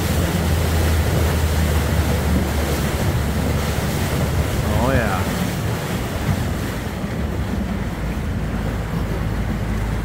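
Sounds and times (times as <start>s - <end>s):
low engine rumble: 0.0s - 10.0s
water rushing along boat hull: 0.0s - 10.0s
wind buffeting microphone: 0.0s - 10.0s.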